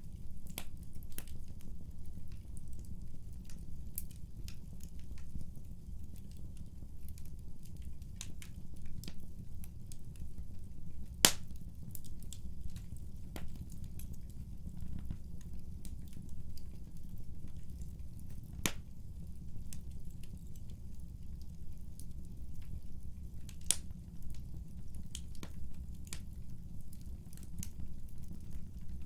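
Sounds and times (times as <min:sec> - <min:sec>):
low rumble of flames: 0:00.0 - 0:29.0
wood fire crackles and pops: 0:00.0 - 0:29.0.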